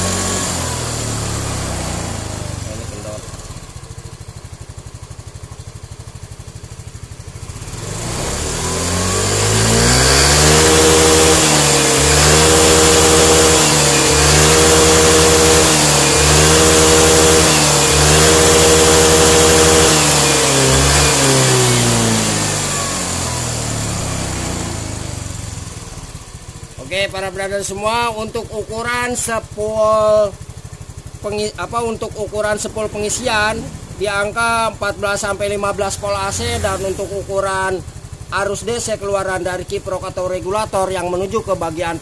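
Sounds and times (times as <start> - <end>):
scooter engine revving: 0.0 - 42.0.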